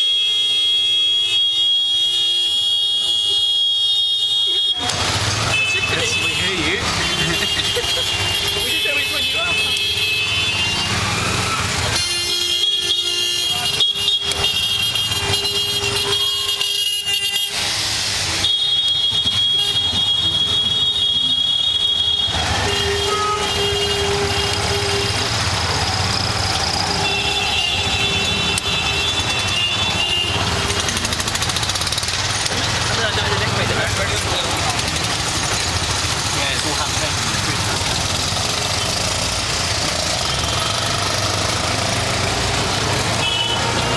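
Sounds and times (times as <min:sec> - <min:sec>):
vehicle horns honking: 0:00.0 - 0:25.9, 0:26.8 - 0:31.5, 0:38.6 - 0:43.9
engine and road noise: 0:00.0 - 0:43.9.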